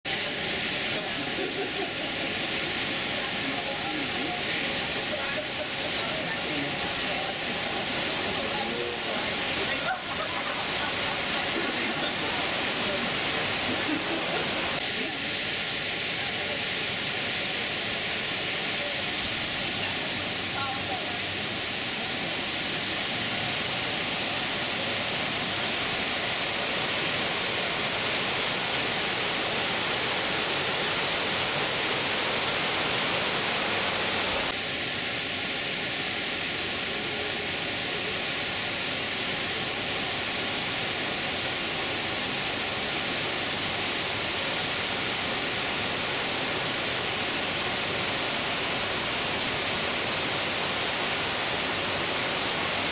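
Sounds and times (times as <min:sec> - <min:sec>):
stream rushing over boulders: 0:00.1 - 0:52.9.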